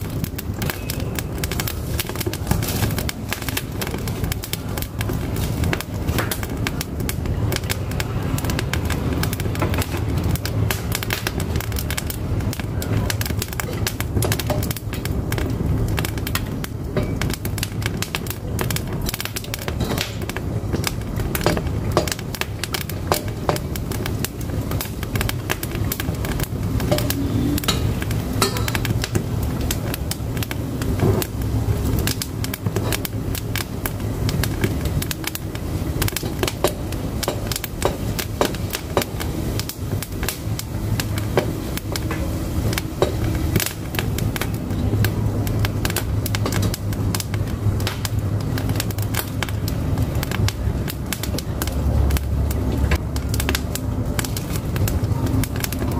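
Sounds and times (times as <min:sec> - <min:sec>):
firewood crackling and popping: 0:00.0 - 0:55.9
low rumble of fire: 0:00.0 - 0:55.9.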